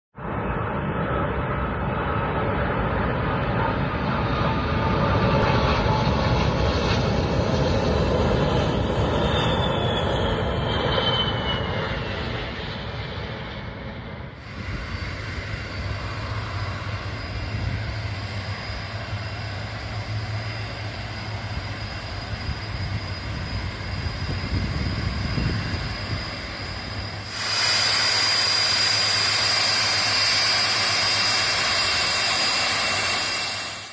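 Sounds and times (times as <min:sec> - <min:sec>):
airliner taxiing with engine whine: 0:00.2 - 0:33.9
jet airliner passing overhead: 0:00.2 - 0:33.9.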